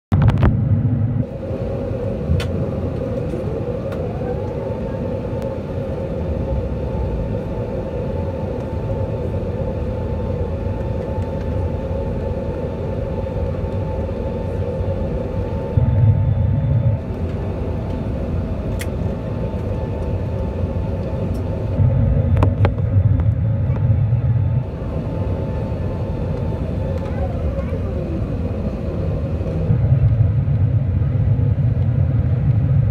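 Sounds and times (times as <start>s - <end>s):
low rumble: 0.0s - 32.9s
airplane cabin engine roar: 0.1s - 32.9s
rising whine: 0.1s - 32.9s.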